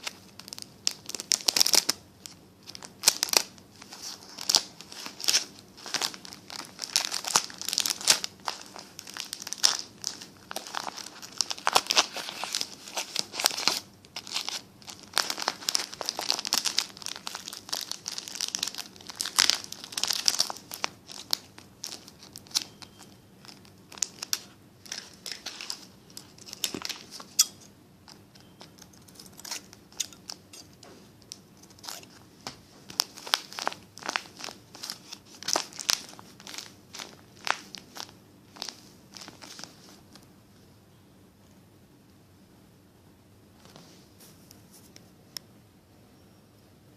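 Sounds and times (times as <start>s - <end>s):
paper crinkling and crumpling: 0.0s - 40.2s.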